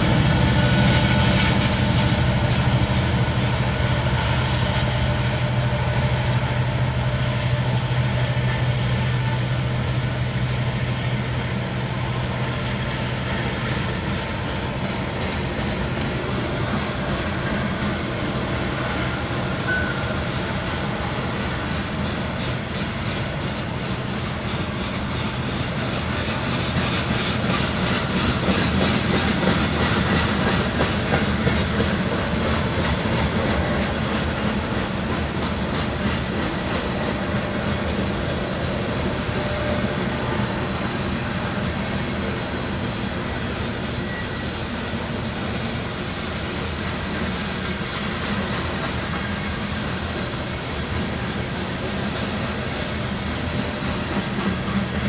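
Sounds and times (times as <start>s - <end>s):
freight train rumbling past: 0.0s - 55.0s
wheels clicking over rail joints: 0.0s - 55.0s.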